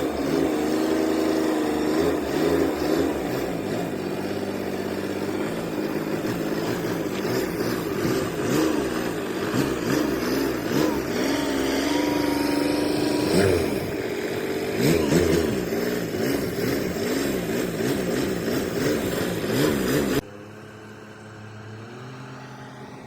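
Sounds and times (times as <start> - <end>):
tractor engine revving: 0.0 - 23.0.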